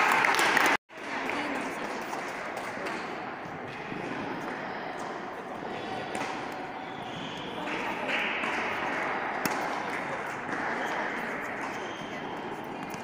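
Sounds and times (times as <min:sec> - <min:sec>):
large hall noise: 0:00.0 - 0:13.0.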